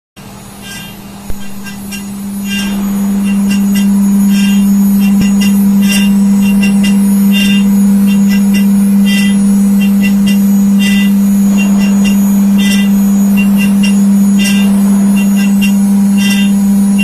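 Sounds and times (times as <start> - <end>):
cutter chirping on metal: 0.2 - 17.0
milling machine spindle humming: 0.2 - 17.0.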